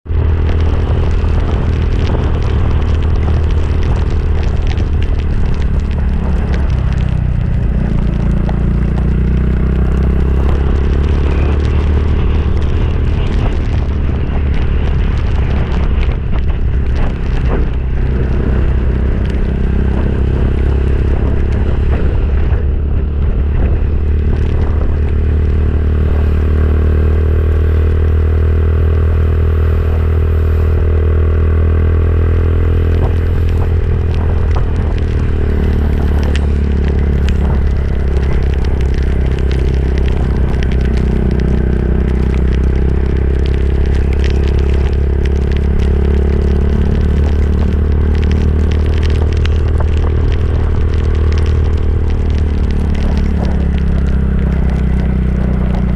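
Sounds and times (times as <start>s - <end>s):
motorcycle engine running: 0.0s - 55.9s
rattles and road noise: 0.0s - 55.9s.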